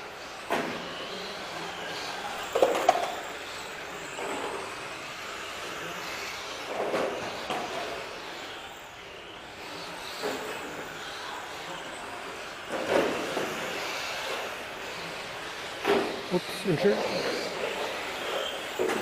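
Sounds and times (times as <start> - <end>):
radio-controlled car running: 0.0 - 19.0.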